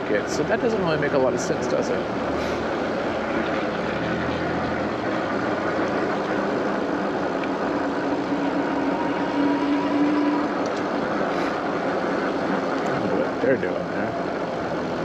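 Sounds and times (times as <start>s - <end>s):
road noise: 0.0s - 15.0s
steady whine: 0.0s - 15.0s
wind rush: 0.0s - 15.0s.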